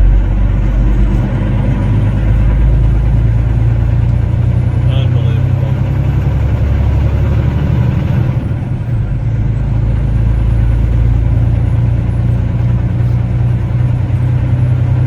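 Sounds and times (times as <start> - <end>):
diesel engine drone from cab: 0.0 - 15.0.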